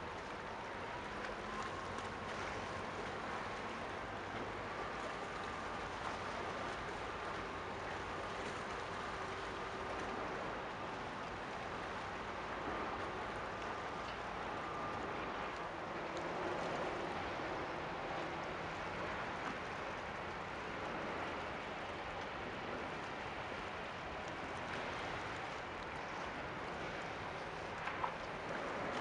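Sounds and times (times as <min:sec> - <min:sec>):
rushing water from ship bow wave: 0:00.0 - 0:29.0.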